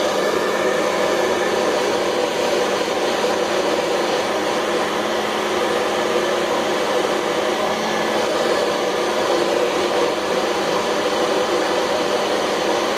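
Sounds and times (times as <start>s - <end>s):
hair dryer blowing air: 0.0s - 12.9s.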